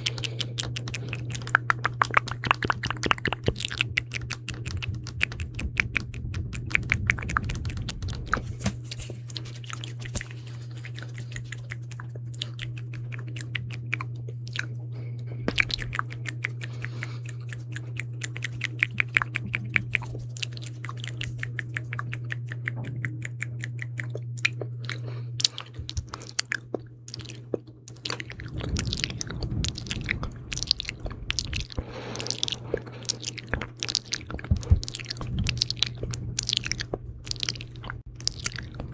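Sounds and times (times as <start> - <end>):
wet mouth clicks and smacks: 0.0 - 14.8, 15.5 - 38.9
steady low hum: 0.0 - 38.9.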